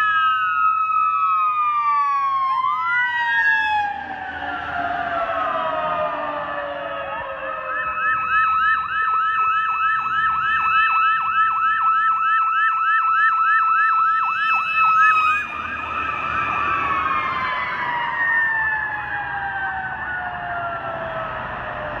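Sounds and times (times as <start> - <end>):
fire truck siren yelp: 0.0 - 22.0
siren tone falling slowly: 0.0 - 22.0
steady high siren tone: 0.0 - 22.0.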